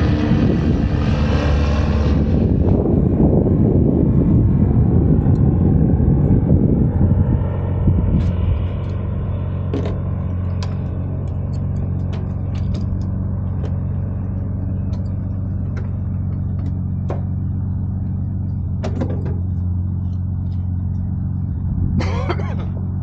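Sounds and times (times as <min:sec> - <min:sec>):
vehicle engine drone: 0:00.0 - 0:23.0.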